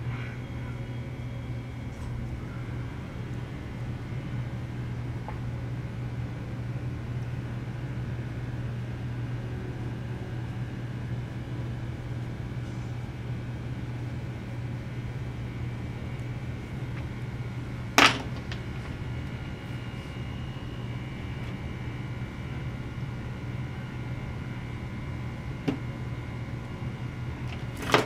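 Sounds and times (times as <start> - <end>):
low hum with light hiss: 0.0 - 28.0.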